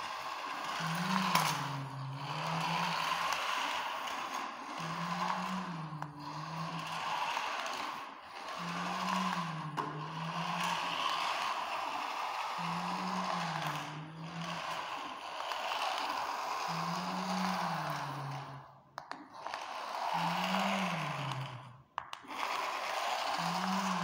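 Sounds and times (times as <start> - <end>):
toy car motor whirring: 0.0 - 24.0.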